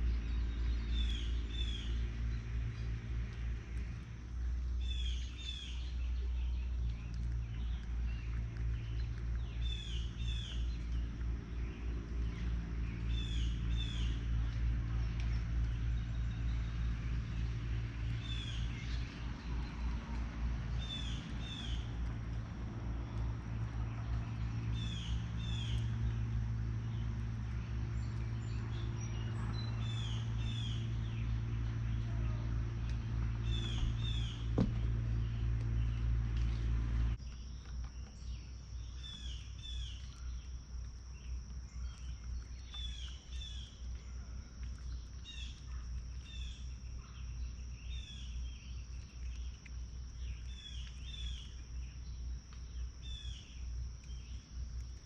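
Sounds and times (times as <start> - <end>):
low steady hum: 0.0 - 55.0
high insect drone: 7.5 - 55.0.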